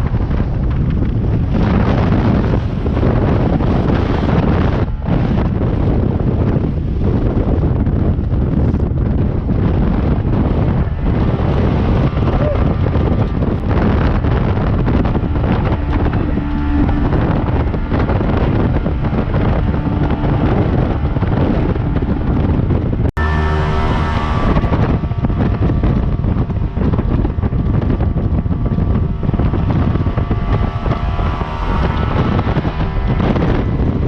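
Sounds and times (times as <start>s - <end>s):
jet boat engine drone: 0.0s - 34.0s
wind buffeting microphone: 0.0s - 34.0s.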